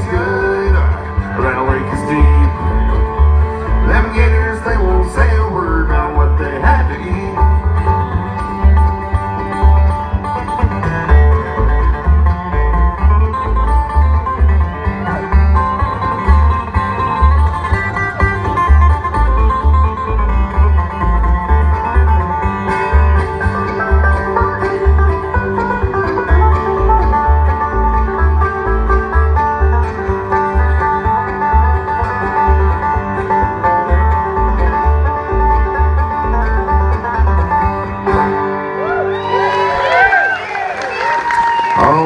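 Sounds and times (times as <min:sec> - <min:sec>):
acoustic guitar: 0:00.0 - 0:40.3
banjo: 0:00.0 - 0:40.4
upright bass: 0:00.0 - 0:41.0
fiddle: 0:00.0 - 0:42.0.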